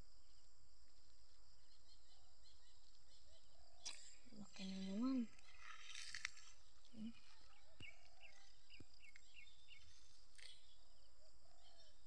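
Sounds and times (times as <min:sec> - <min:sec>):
outdoor background hiss: 0:00.0 - 0:07.6, 0:08.6 - 0:12.0
bird chirping: 0:01.5 - 0:12.0.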